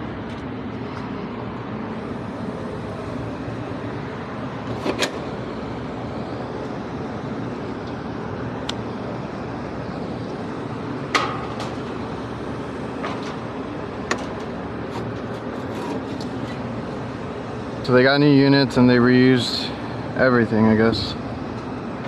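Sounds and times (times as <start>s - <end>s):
air conditioning units whirring: 0.0s - 22.0s.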